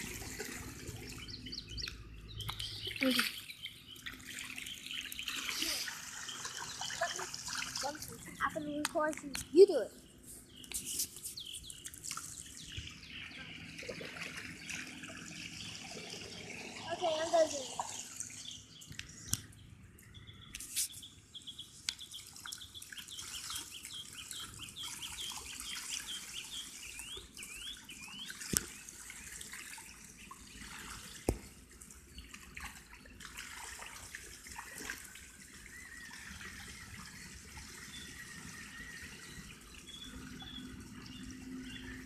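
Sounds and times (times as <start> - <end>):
water spilling onto concrete: 0.0 - 1.8, 2.5 - 8.8, 10.7 - 18.5, 21.9 - 41.4
water sloshing and splashing: 0.0 - 20.0, 20.6 - 42.0.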